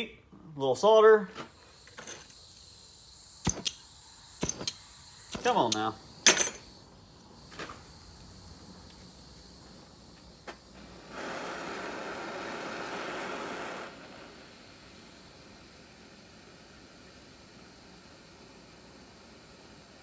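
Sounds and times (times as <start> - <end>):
gas torch hissing: 1.4 - 20.0.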